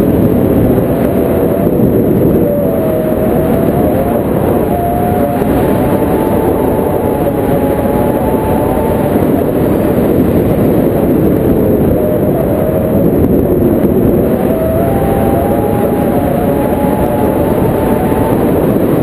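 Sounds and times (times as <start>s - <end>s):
faint wavering whistle: 0.0s - 19.0s
wind noise on microphone: 0.0s - 19.0s.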